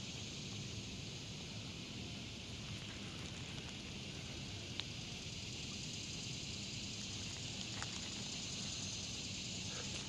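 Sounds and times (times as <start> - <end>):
high hiss: 0.0 - 10.0.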